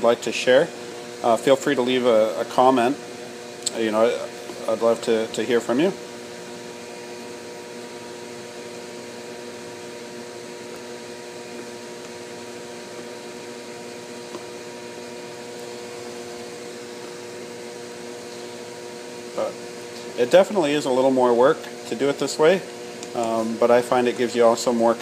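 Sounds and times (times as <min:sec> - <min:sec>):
fan motor humming: 0:00.0 - 0:25.0.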